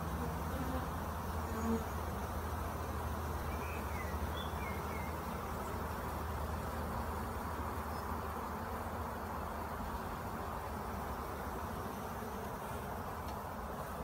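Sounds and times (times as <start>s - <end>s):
bee swarm buzzing: 0.0s - 14.0s.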